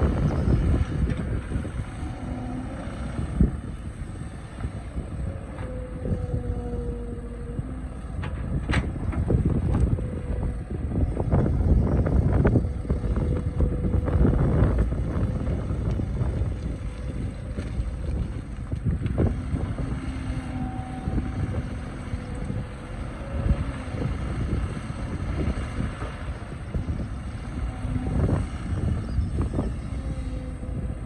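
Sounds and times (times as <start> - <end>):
excavator diesel engine rumbling: 0.0 - 31.0.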